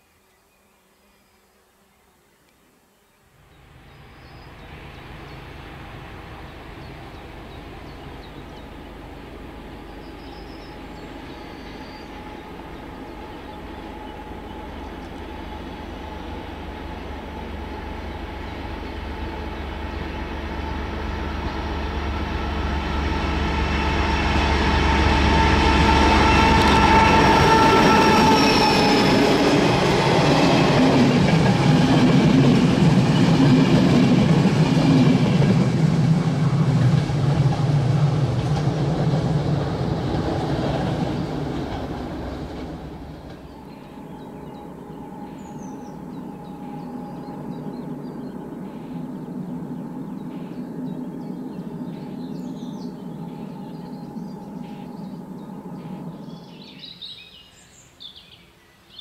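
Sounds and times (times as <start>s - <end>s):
diesel locomotive engine: 3.4s - 58.0s
locomotive whine: 3.6s - 57.8s.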